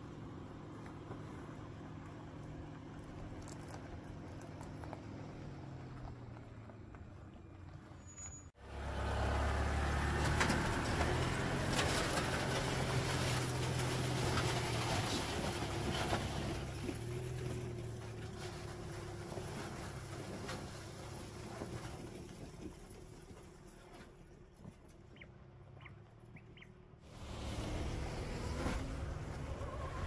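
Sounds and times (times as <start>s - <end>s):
car drivetrain hum: 0.0s - 30.0s.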